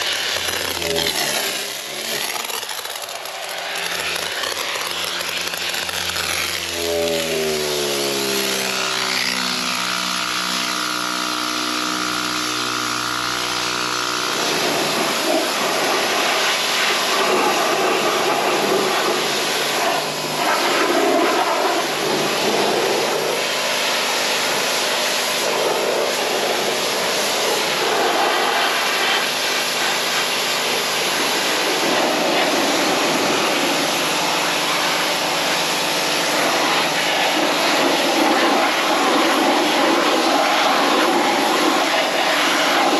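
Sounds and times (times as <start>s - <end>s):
pressure washer spraying: 0.0s - 42.9s.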